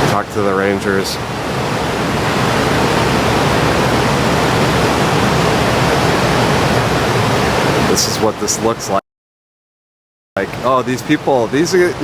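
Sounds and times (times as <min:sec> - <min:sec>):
river rapids rushing: 0:00.0 - 0:08.9, 0:10.4 - 0:12.0.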